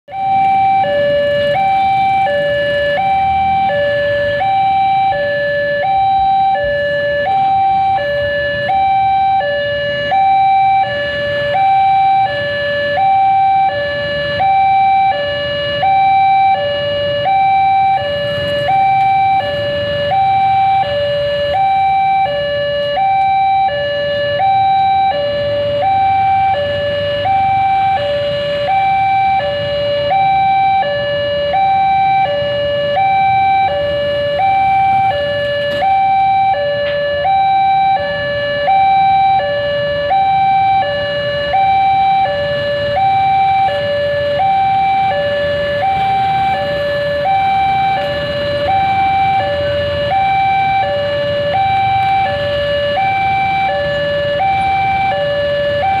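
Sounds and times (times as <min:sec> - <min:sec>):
road traffic idling: 0:00.1 - 0:56.0
two-tone crossing alarm: 0:00.1 - 0:56.0.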